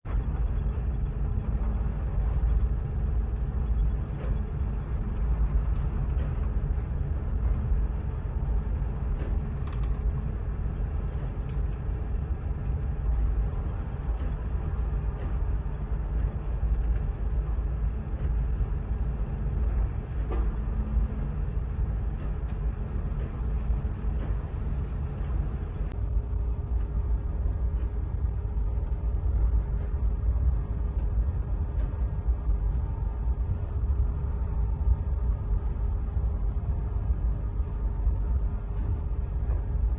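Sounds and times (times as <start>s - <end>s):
faint machinery hum: 0.0s - 39.9s
ship engine low rumble: 0.0s - 39.9s.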